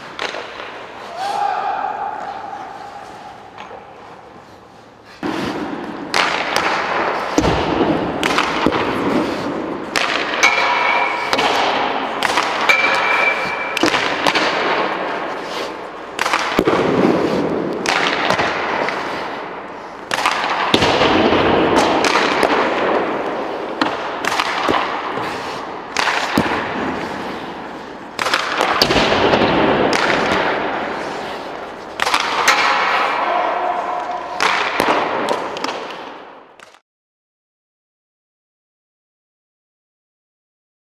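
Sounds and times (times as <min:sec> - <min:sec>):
hockey stick cracking on puck: 0:00.0 - 0:01.2, 0:03.0 - 0:36.8
puck striking pads and boards: 0:00.0 - 0:36.8
skate blades scraping ice: 0:02.1 - 0:20.9, 0:22.0 - 0:36.8.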